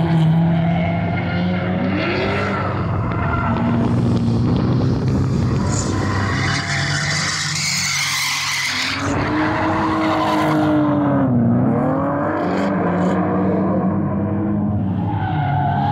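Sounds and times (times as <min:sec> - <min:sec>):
car engines revving: 0:00.0 - 0:15.9.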